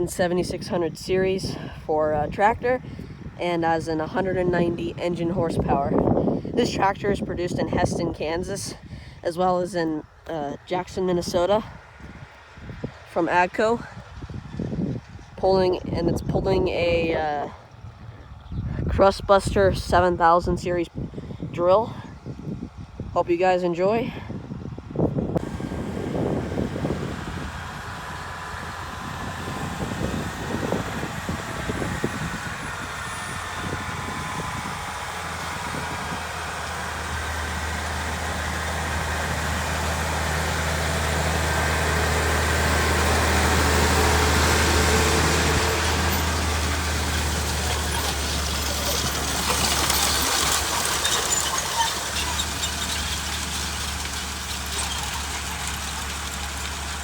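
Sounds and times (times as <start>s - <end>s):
tractor engine running: 0.0s - 24.0s, 24.6s - 57.0s.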